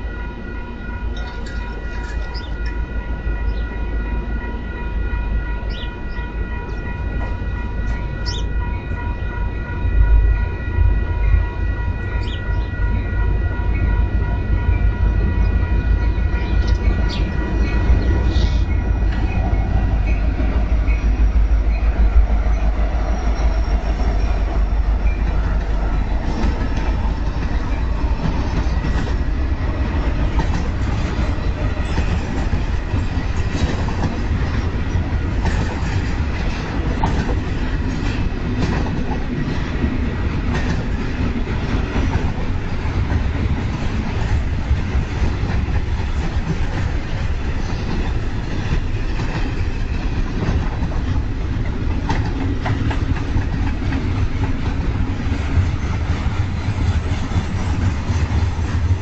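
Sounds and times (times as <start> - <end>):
diesel locomotives rumbling: 0.0 - 59.0
freight train rolling by: 0.0 - 59.0.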